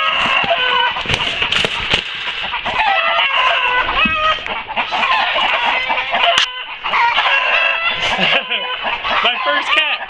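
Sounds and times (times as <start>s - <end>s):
chickens squawking and clucking: 0.0s - 10.0s.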